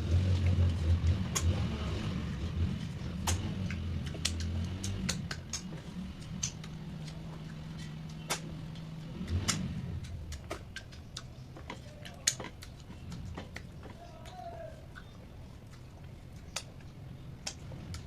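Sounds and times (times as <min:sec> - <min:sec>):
low steady hum: 0:00.0 - 0:18.0
chewing mouth clicks and smacks: 0:00.2 - 0:18.0.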